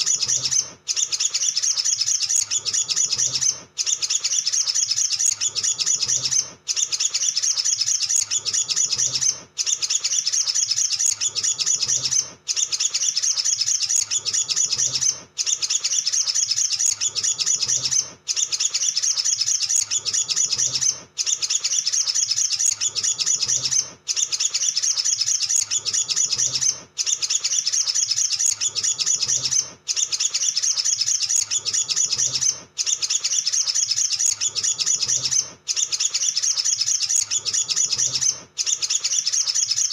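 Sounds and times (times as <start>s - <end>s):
bird twittering chatter: 0.0s - 39.9s.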